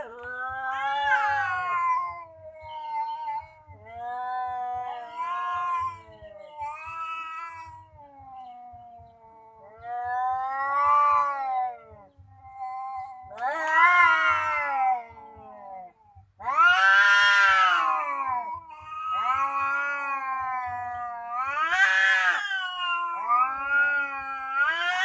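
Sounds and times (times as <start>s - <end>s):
cats yowling: 0.0s - 25.0s.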